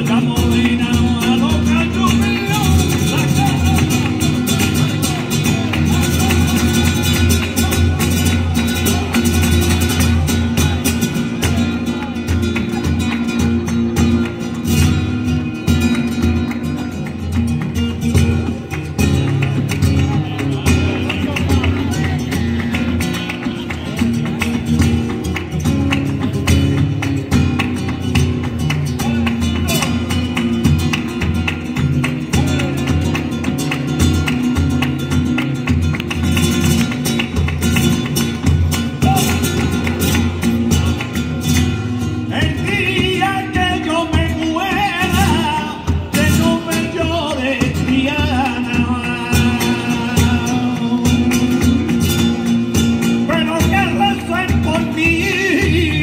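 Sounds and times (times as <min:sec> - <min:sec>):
rhythmic hand-clapping: 0:00.0 - 0:56.0
spanish guitar playing: 0:00.0 - 0:56.0.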